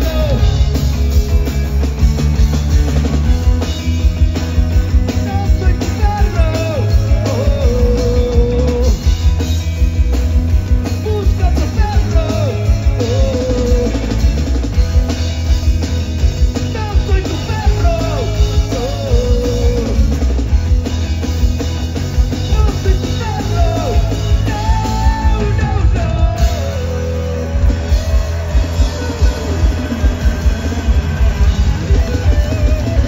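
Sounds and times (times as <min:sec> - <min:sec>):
bass guitar: 0:00.0 - 0:33.0
drum kit beat: 0:00.0 - 0:33.0.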